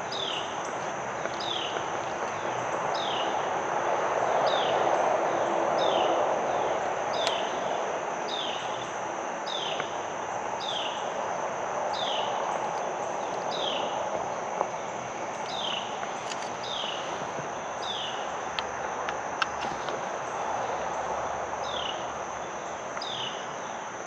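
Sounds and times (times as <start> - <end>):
high insect drone: 0.0 - 24.0
woodland ambience rush: 0.0 - 24.0.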